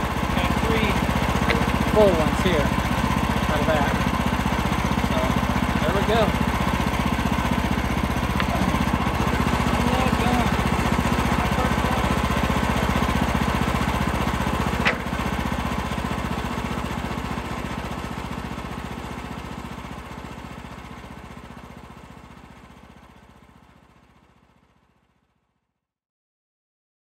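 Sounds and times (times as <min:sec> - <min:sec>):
gasoline engine running: 0:00.0 - 0:25.0.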